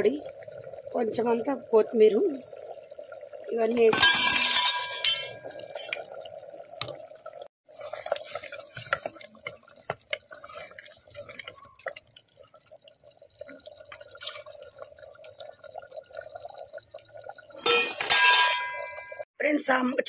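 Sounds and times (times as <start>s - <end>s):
stew bubbling in a pan: 0.0s - 19.3s.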